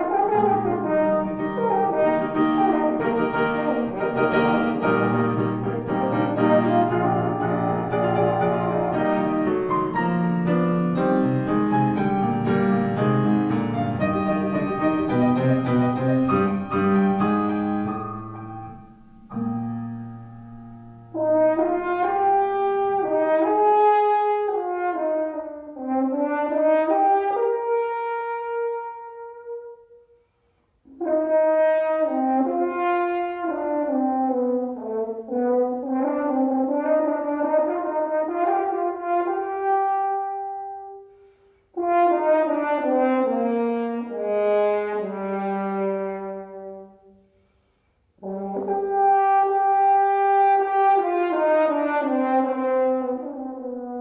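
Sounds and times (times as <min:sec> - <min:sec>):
french horn: 0:00.0 - 0:54.0
piano: 0:00.0 - 0:54.0.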